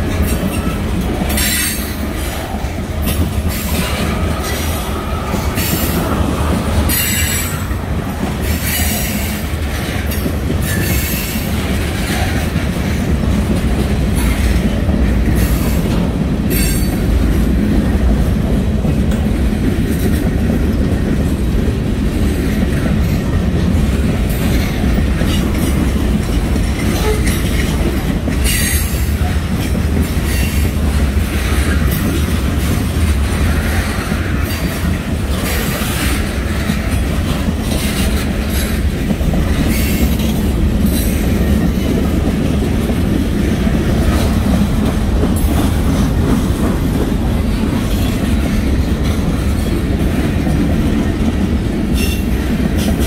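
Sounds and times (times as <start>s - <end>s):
train wheels rumbling on rail: 0.0s - 53.0s
wheels clicking over rail joints: 0.0s - 53.0s.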